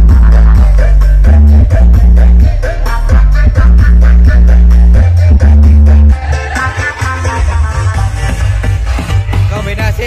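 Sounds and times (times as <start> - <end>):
heavy bass line: 0.0 - 10.0
loud dance music: 0.0 - 10.0.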